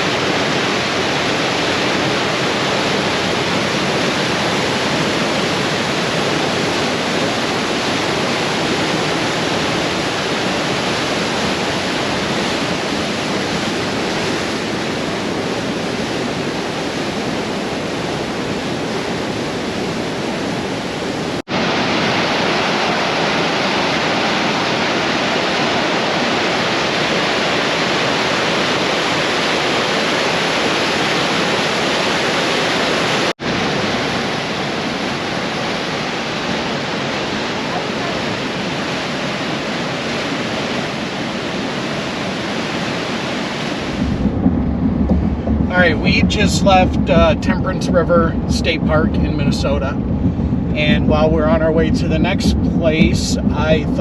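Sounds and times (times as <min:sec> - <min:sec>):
waterfall rushing: 0:00.0 - 0:44.4, 0:45.2 - 0:54.0.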